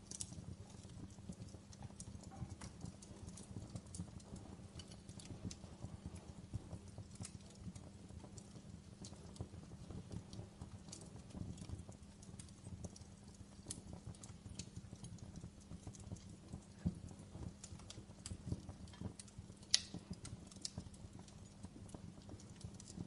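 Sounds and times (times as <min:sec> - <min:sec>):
campfire crackling: 0:00.0 - 0:23.0
faint steady hum: 0:00.0 - 0:23.0.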